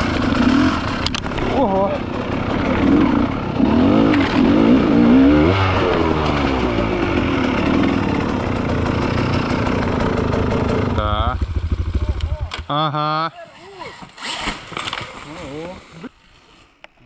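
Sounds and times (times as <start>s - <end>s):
dirt bike engine revving: 0.0s - 15.8s.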